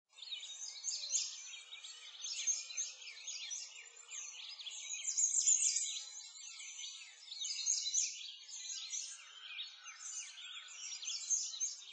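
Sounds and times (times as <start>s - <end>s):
small birds chirping: 0.1s - 11.9s.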